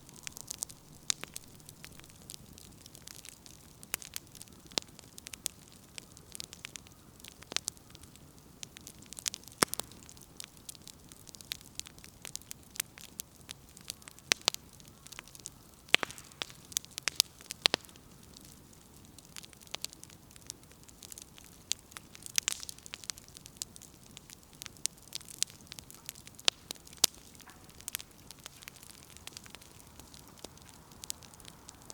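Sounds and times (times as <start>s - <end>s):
soft steady hiss: 0.0s - 31.9s
wood fire crackling and popping: 0.0s - 31.9s.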